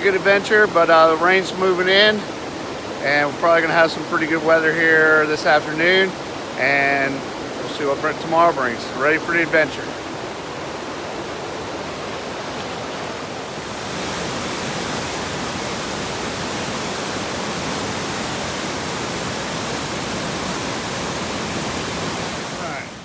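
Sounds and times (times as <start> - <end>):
mountain creek rushing: 0.0 - 23.0.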